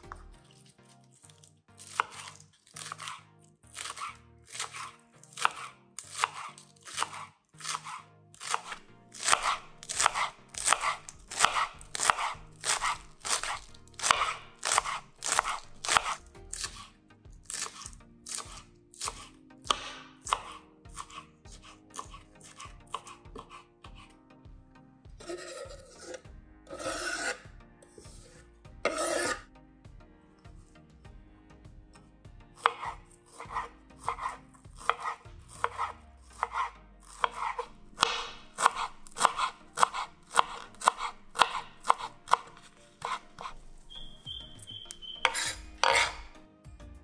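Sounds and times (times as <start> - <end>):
knife slicing on cutting board: 0.0 - 3.2, 3.8 - 24.1, 25.2 - 29.5, 32.6 - 46.4.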